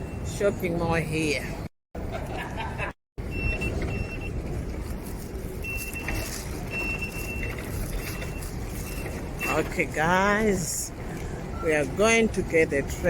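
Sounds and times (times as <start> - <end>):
busy station ambience: 0.0 - 13.0.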